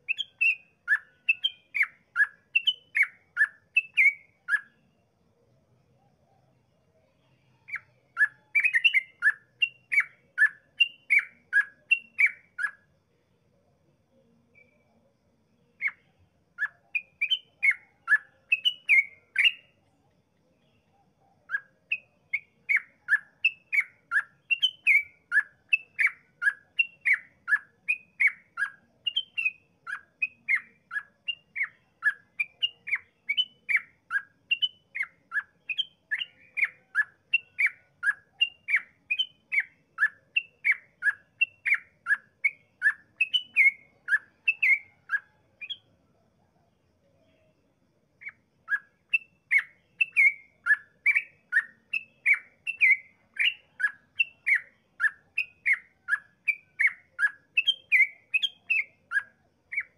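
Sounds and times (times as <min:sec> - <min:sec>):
bulbul singing: 0:00.0 - 0:05.0, 0:06.0 - 0:13.0, 0:14.1 - 0:46.0, 0:48.2 - 0:59.9.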